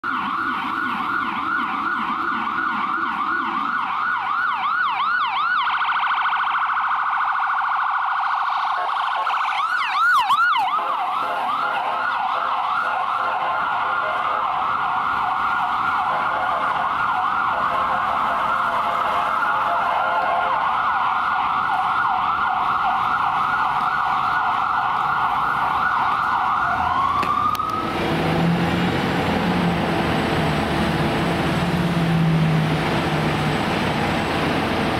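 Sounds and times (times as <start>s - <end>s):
ambulance siren yelping: 0.0s - 34.9s.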